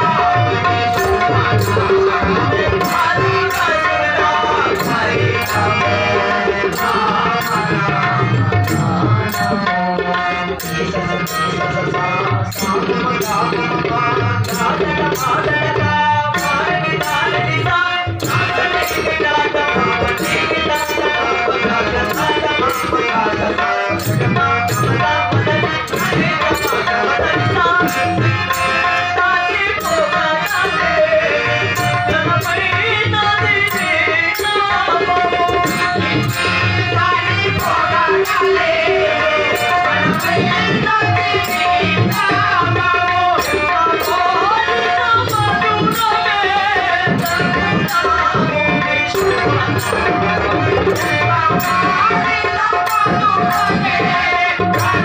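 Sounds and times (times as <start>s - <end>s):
harmonium: 0.0s - 55.0s
tabla beat: 0.0s - 55.0s.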